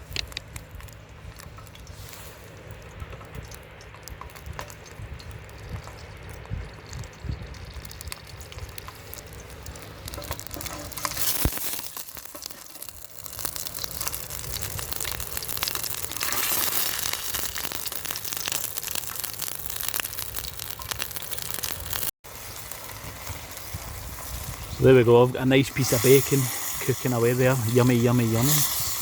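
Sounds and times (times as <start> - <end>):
bacon sizzling in a frying tin: 3.5 - 29.0.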